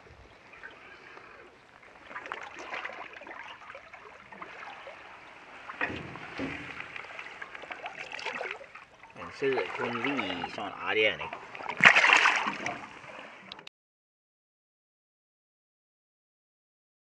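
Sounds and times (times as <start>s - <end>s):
water trickling and splashing: 0.0s - 13.7s.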